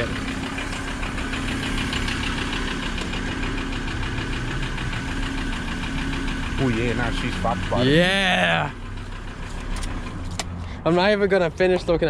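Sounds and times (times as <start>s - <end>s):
fast regular engine knock: 0.0s - 7.9s, 8.7s - 12.0s
car engine idling: 0.0s - 12.0s.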